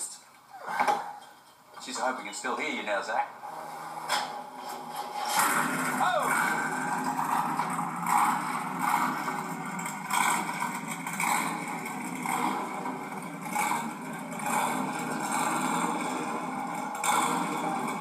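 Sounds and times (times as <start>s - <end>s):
car engine revving: 3.4s - 18.0s.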